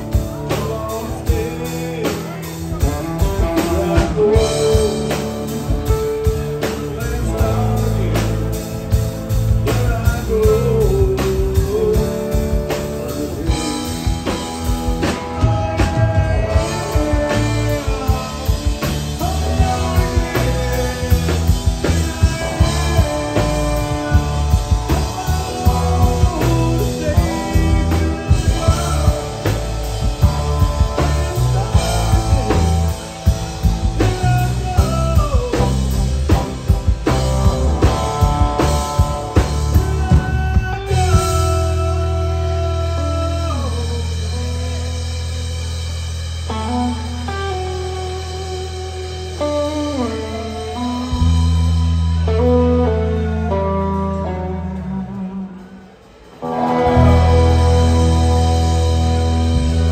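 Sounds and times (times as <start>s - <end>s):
bending lead guitar lines: 0.0s - 59.9s
live rock band playing: 0.0s - 59.9s.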